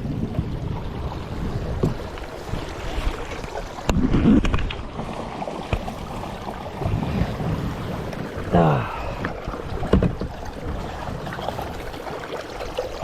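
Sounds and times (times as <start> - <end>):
paddle strokes in water: 0.0 - 13.0
wind rumble on microphone: 0.0 - 13.0.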